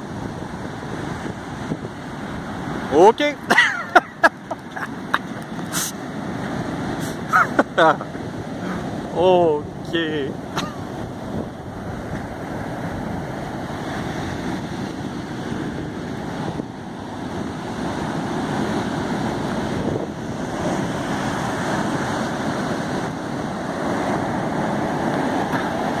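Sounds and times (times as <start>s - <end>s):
ocean surf breaking: 0.0s - 26.0s.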